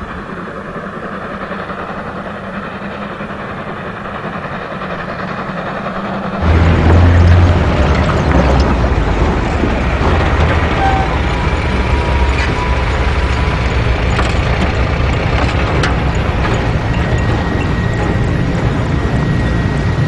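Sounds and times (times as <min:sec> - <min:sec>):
helicopter engine and rotor rumble: 0:00.0 - 0:20.0.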